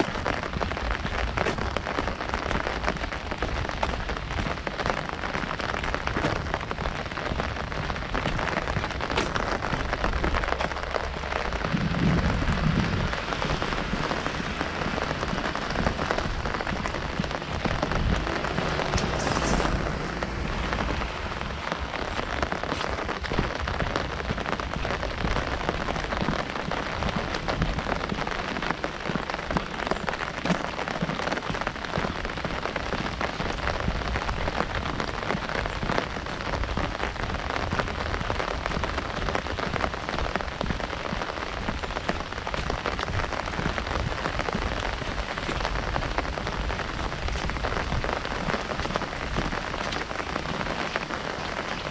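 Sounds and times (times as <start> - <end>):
heavy rain on an umbrella: 0.0 - 51.9.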